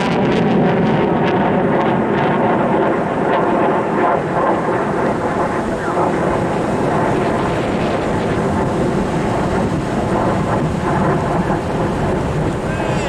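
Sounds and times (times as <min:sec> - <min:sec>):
airplane engine flying over: 0:00.0 - 0:13.0.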